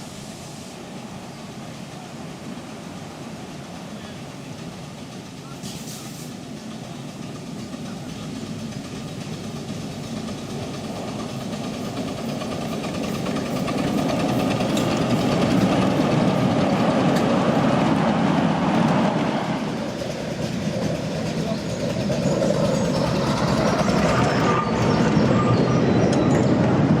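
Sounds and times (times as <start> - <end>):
miniature train rumble and rail clatter: 0.0 - 27.0.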